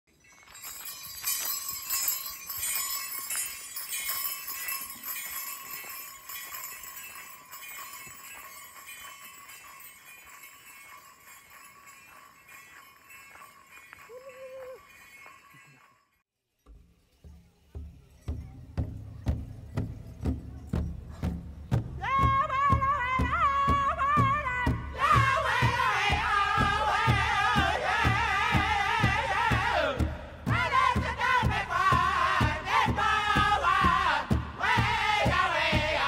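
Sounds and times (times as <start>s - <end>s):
bells jingling rhythmically: 0.1s - 36.0s.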